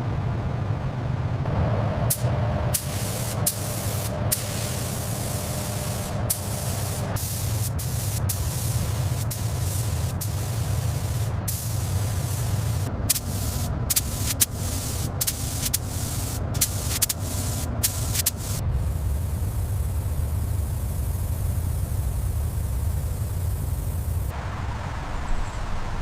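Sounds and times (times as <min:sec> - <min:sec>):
steady low hum: 0:00.0 - 0:26.0
compressed air hissing: 0:02.1 - 0:24.3.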